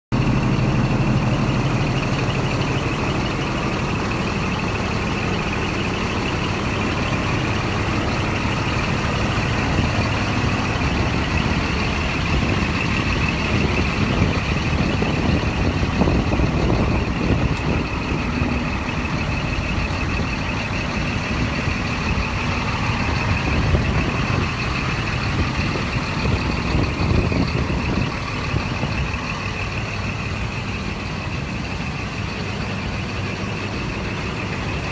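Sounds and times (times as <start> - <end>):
diesel truck engine idling: 0.1 - 34.9
steady high tone: 0.2 - 34.9.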